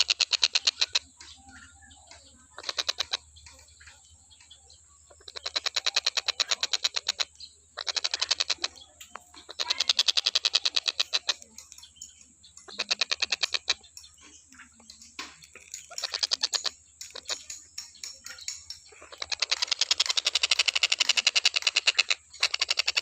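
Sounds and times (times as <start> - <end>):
kingfisher rattling call: 0.0 - 4.0, 5.1 - 23.0.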